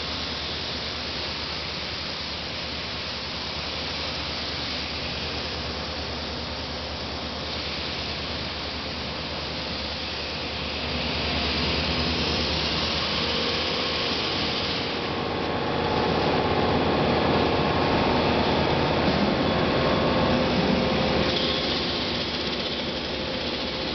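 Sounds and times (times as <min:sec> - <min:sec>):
sanding machine running: 0:03.0 - 0:23.9.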